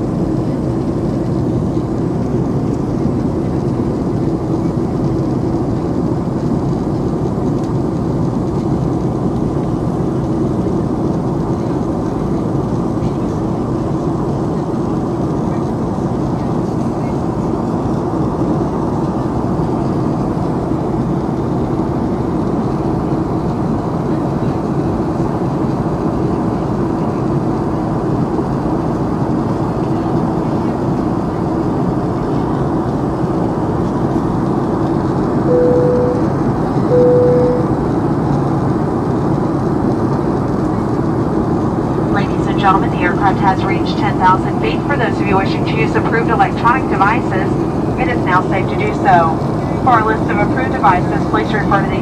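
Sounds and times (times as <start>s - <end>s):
airplane cabin engine drone: 0.0s - 52.0s.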